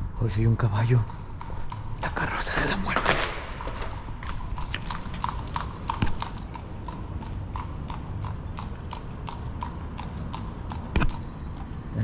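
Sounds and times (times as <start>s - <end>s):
horse hooves clip-clopping on pavement: 0.3s - 12.0s.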